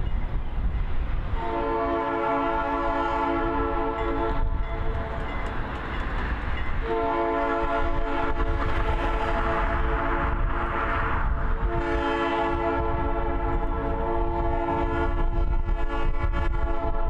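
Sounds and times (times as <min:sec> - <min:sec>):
locomotive air horn blasts: 0:01.4 - 0:05.1, 0:06.8 - 0:17.0.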